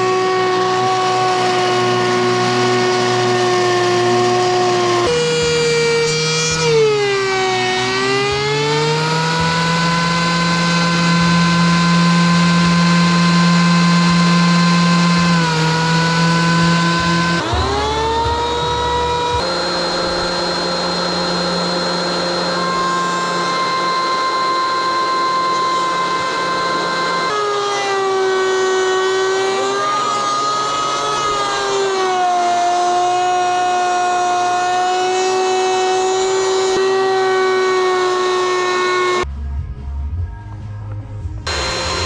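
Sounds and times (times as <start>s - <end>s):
electric planer motor whine: 0.0s - 39.3s, 41.5s - 42.0s.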